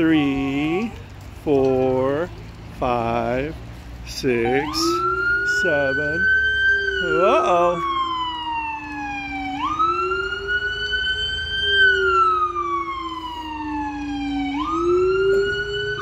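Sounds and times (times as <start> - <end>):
police siren wailing: 0.0 - 16.0.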